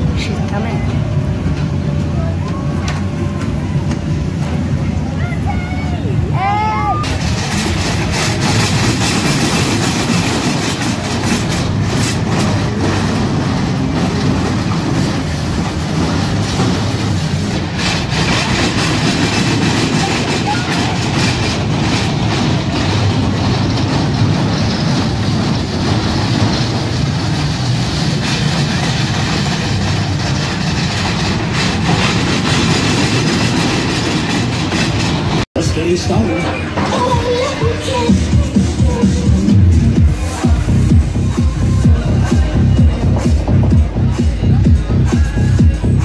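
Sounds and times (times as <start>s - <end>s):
roller coaster rumbling on rails: 0.0s - 46.0s.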